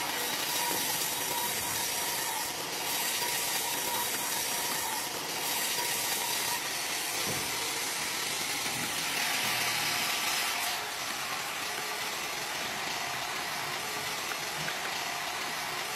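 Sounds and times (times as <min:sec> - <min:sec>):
band saw cutting log: 0:00.0 - 0:15.9.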